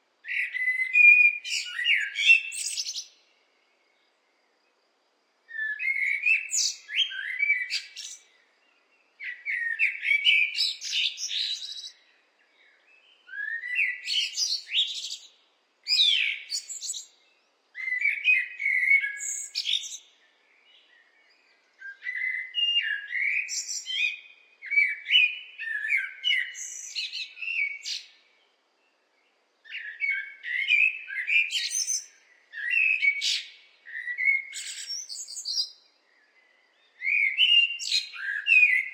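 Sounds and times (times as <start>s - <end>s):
blackbird singing: 0.2s - 4.2s, 5.5s - 38.9s.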